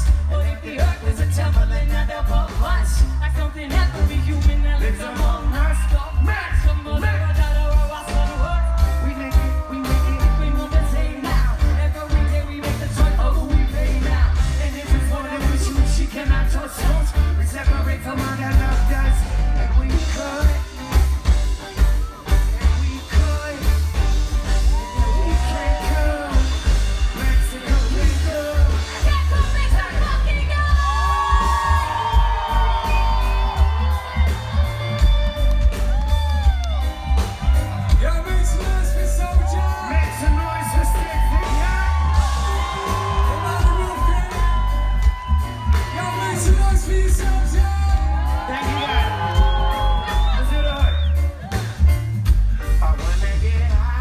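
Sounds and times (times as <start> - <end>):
person singing: 0.0 - 21.4, 22.1 - 35.0, 37.1 - 51.6
live reggae rock band: 0.0 - 54.0.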